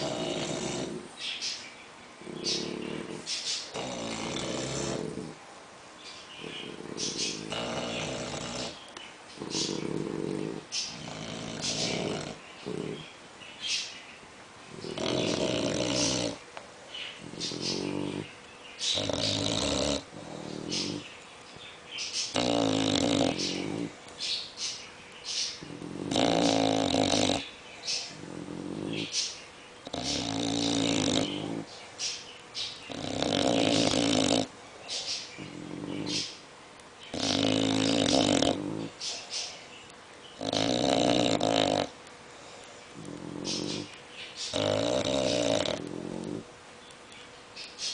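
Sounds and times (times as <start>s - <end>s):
dogs snoring: 0.0s - 1.2s, 2.2s - 5.4s, 6.3s - 13.2s, 14.7s - 21.2s, 22.2s - 24.2s, 25.3s - 36.4s, 37.1s - 39.3s, 40.3s - 46.6s.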